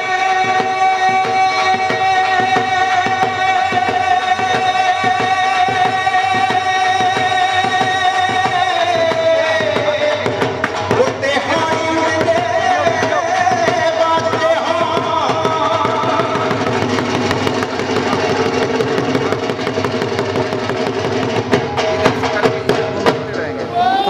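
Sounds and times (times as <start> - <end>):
dhol drum beat: 0.0 - 24.0.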